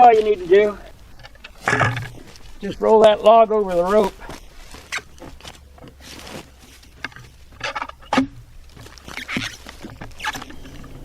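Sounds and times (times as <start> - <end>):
log rolling on ground: 0.0 - 11.0.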